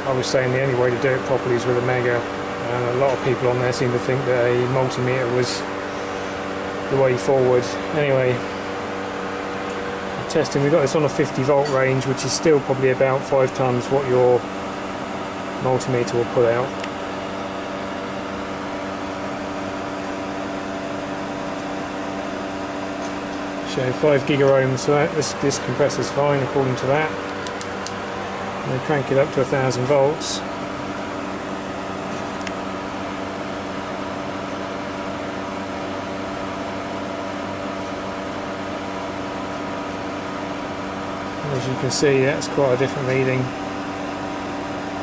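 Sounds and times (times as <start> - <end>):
steady machine hum: 0.0 - 45.0.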